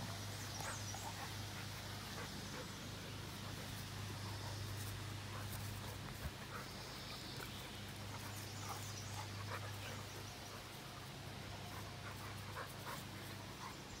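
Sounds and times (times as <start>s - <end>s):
dogs panting: 0.0s - 14.0s
steady low hum: 0.0s - 14.0s.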